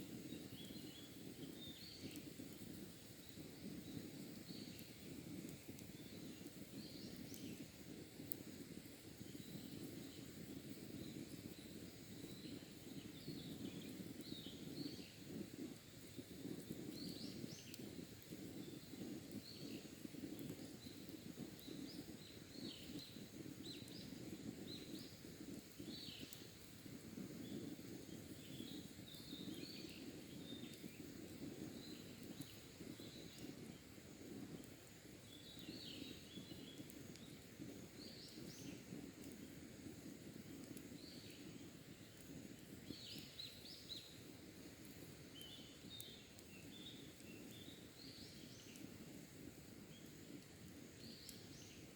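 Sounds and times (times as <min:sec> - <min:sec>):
campfire crackling: 0:00.0 - 0:51.9
faint birds chirping: 0:00.1 - 0:51.9.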